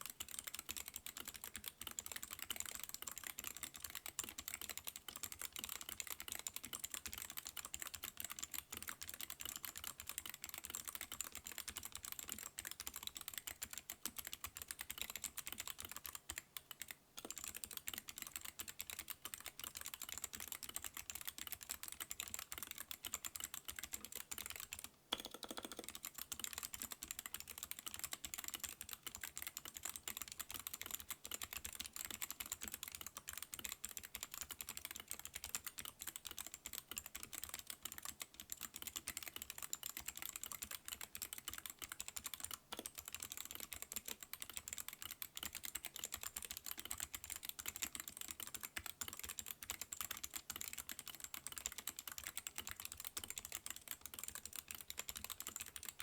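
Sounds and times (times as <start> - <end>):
clicky keyboard typing: 0.0 - 56.0.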